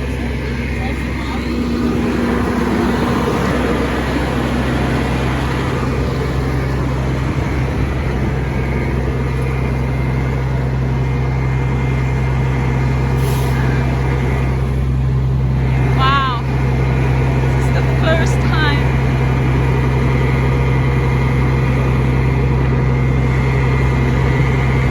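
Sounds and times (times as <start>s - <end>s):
fire truck engine droning: 0.0s - 24.9s.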